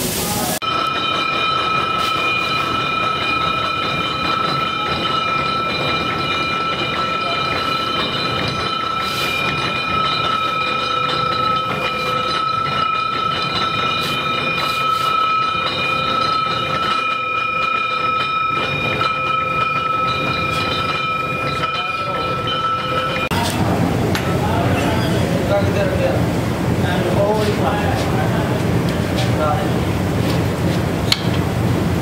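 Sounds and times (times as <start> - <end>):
factory machinery drone: 0.0 - 32.0
high machine whine: 0.6 - 32.0.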